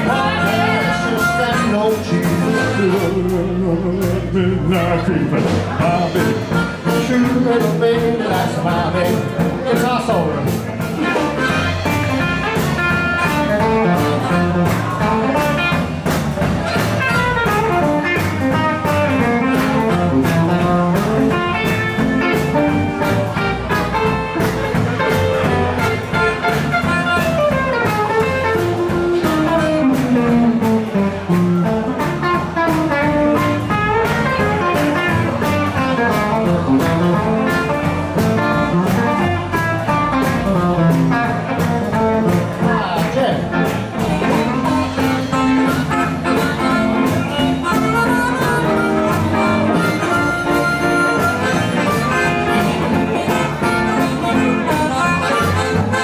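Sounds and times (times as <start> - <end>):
electric and acoustic guitars: 0.0 - 56.0
steady drum beat: 0.0 - 56.0.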